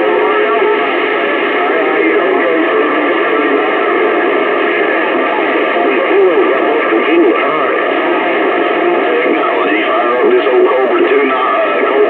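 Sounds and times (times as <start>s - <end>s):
faint garbled radio voices: 0.0s - 12.0s
radio static: 0.0s - 12.0s
wavering radio tones: 0.0s - 12.0s.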